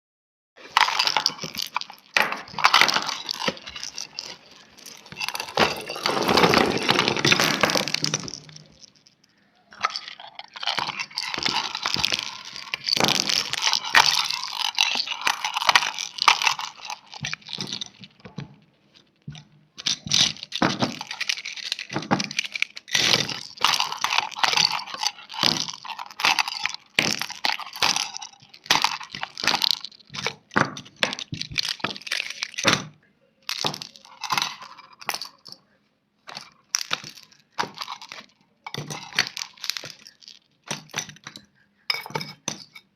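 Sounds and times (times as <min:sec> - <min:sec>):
rapid crackling and crunching: 0:00.6 - 0:32.8, 0:36.3 - 0:41.0.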